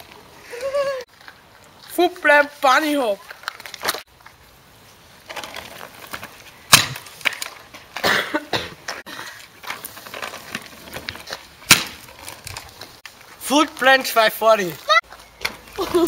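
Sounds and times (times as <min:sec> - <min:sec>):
scooter wheels rolling on asphalt: 0:00.0 - 0:16.0.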